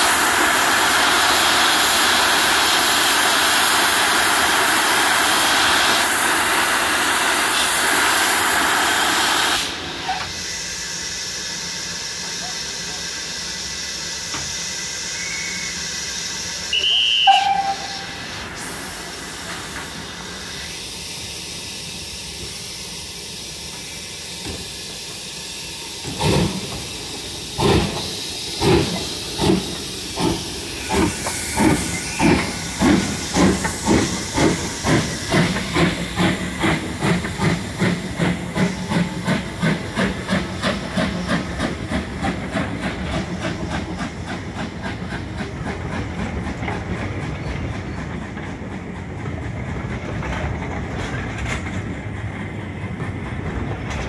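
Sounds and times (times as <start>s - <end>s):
steam locomotive exhaust chuffs: 0.0s - 54.0s
steam locomotive hissing: 0.0s - 54.0s
train coaches rolling: 0.0s - 54.0s.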